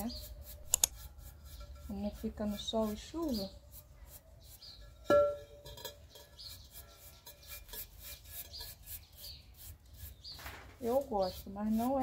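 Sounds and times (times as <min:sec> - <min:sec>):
paintbrush rasping on terracotta: 0:00.0 - 0:05.0, 0:06.1 - 0:12.0.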